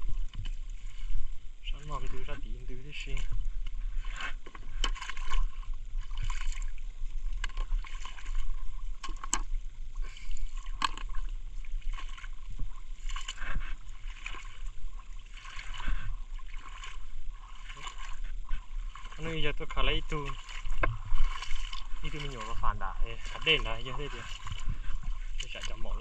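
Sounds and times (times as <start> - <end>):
wading through water: 0.0 - 26.0.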